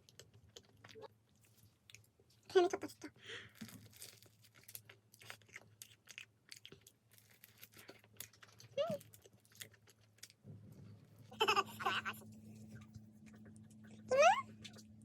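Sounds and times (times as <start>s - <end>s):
chewing with crisp crunches: 0.0s - 2.5s, 3.4s - 10.4s, 12.2s - 15.0s.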